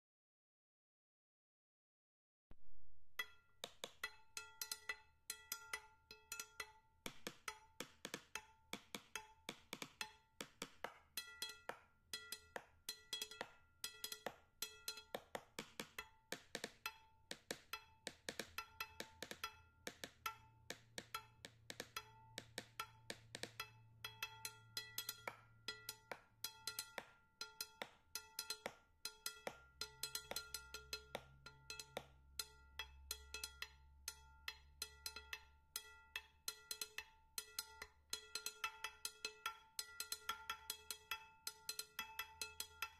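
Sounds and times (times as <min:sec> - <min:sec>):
wooden percussive knocks: 0:03.2 - 0:42.9.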